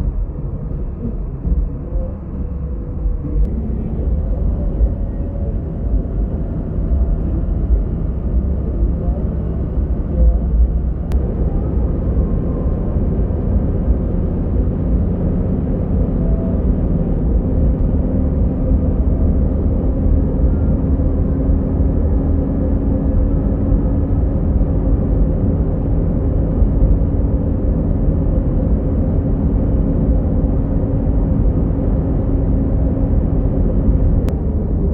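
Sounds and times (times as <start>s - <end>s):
bus engine and road rumble: 0.0s - 34.9s.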